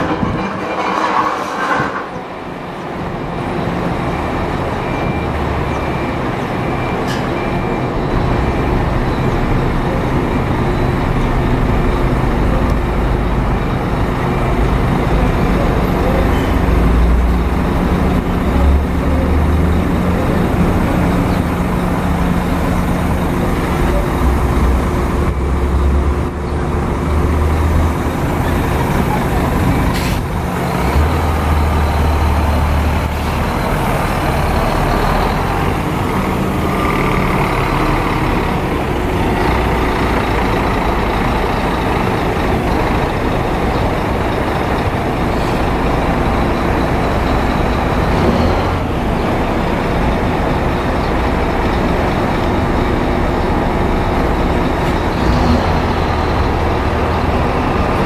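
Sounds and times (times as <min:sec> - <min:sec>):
coach diesel engine rumble: 0:02.3 - 0:58.0.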